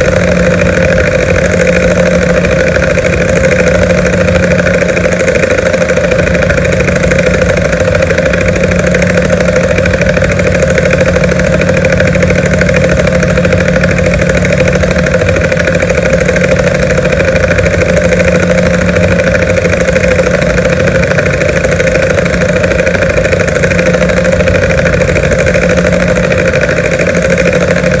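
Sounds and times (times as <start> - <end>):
helicopter rotor and engine noise: 0.0 - 28.0.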